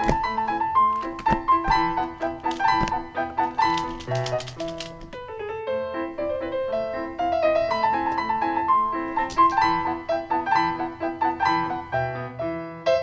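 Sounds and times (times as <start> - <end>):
piano playing quick melody: 0.0 - 13.0.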